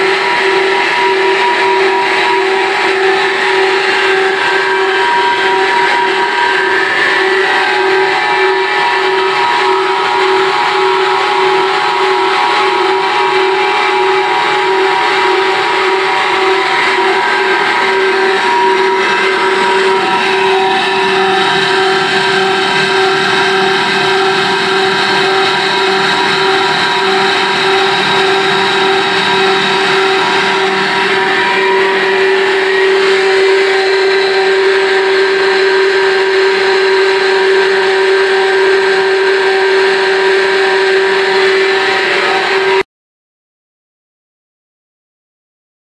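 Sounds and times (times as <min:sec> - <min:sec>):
high-pitched steady tone: 0:00.0 - 0:42.8.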